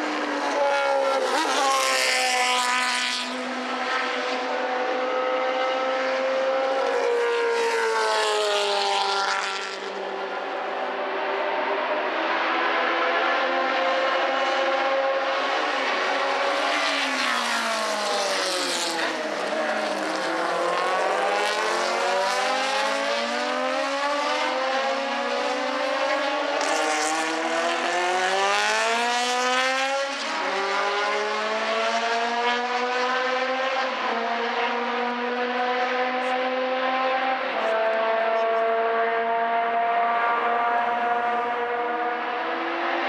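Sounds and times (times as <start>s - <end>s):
racing car engines revving: 0.0s - 43.0s.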